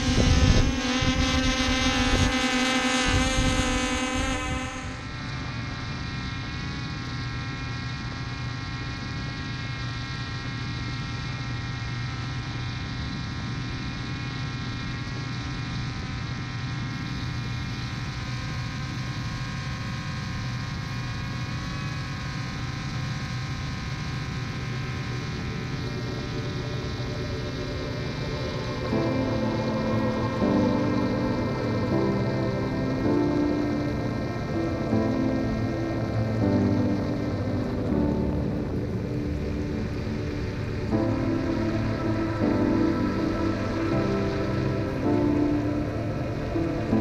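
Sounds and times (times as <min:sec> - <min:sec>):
drone motors humming and whining: 0:00.0 - 0:47.0.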